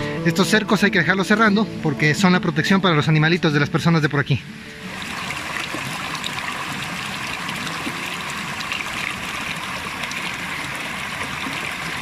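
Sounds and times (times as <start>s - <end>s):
stream running over rocks: 2.0s - 12.0s.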